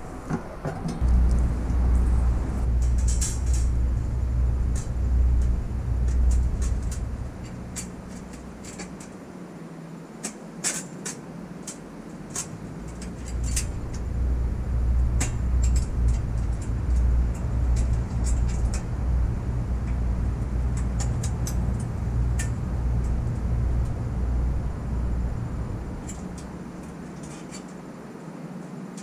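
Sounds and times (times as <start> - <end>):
low rumble: 0.0 - 9.2, 12.6 - 27.8.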